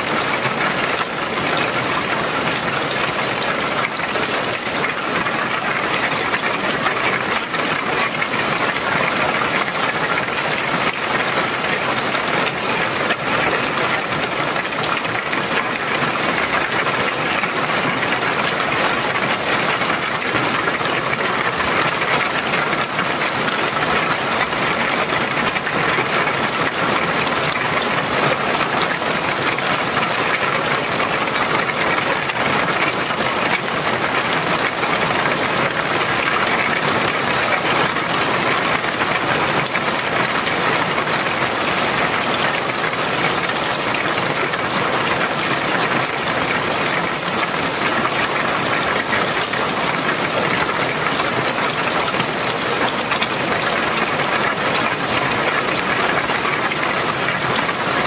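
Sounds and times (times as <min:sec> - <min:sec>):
heavy rain on tiled roof: 0:00.0 - 0:58.0
rainwater pouring off eaves: 0:00.0 - 0:58.0.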